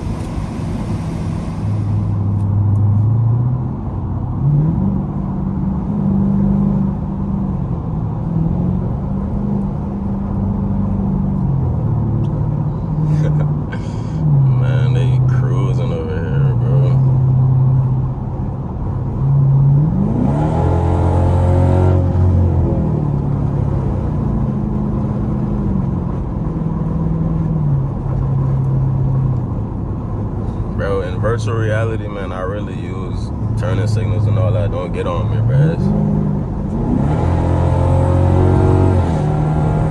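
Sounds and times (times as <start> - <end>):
car exhaust droning: 0.0 - 39.9.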